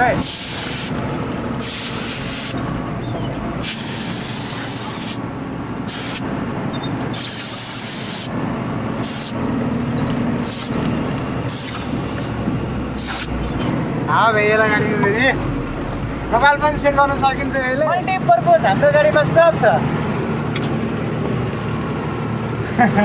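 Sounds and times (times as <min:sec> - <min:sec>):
diesel truck engine running: 0:00.0 - 0:23.0
road rumble: 0:00.0 - 0:23.0.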